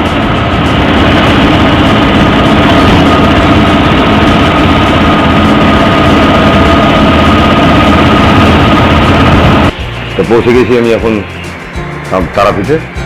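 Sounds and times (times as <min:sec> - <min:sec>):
rickshaw engine rumble: 0:00.0 - 0:12.7
faint steady whine: 0:00.0 - 0:12.8.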